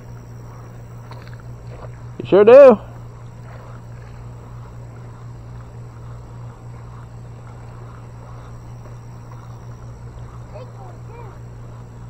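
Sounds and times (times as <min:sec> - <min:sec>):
insects trilling: 0:00.0 - 0:12.0
low hum: 0:00.0 - 0:12.0.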